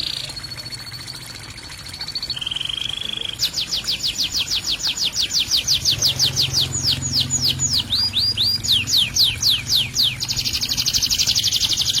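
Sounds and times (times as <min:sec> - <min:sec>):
songbird singing: 0:02.0 - 0:12.0.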